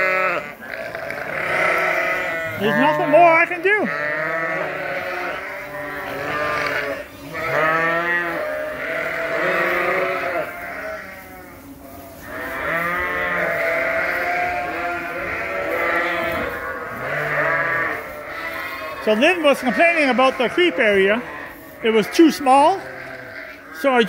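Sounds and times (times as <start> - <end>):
sheep bleating: 0.0 - 11.6, 12.2 - 24.0.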